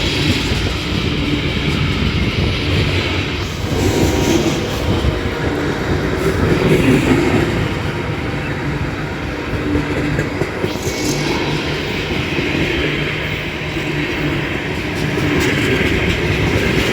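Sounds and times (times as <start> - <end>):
freight train rumbling on rails: 0.0 - 16.9.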